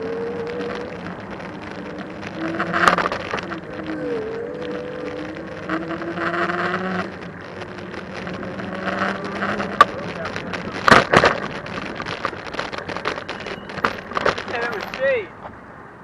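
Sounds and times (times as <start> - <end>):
electric bike motor whining: 0.0 - 14.8
wind and tyre noise: 0.0 - 16.0.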